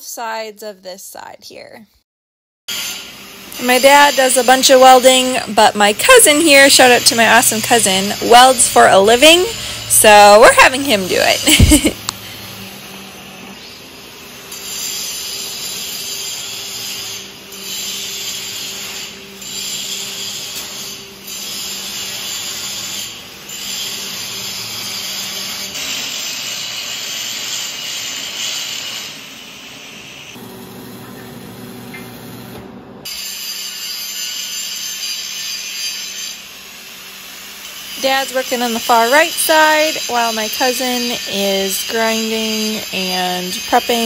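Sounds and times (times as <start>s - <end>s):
angle grinder grinding steel: 2.7s - 32.0s, 33.1s - 44.0s.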